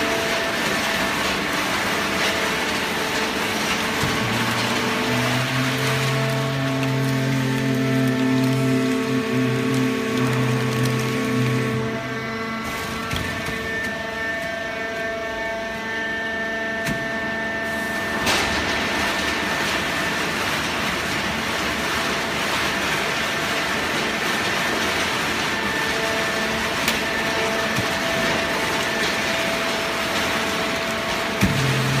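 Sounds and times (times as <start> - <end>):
baler motor and hydraulic pump hum: 0.0 - 32.0.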